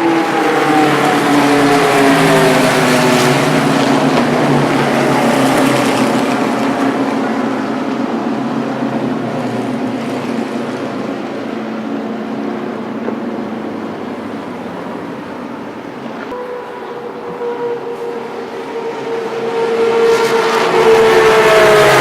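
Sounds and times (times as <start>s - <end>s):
higher steady engine tone: 0.0s - 22.0s
race car engine passing: 0.0s - 22.0s.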